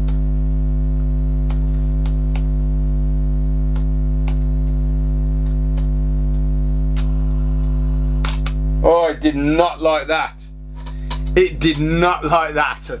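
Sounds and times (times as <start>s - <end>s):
electrical mains buzz: 0.0s - 13.0s.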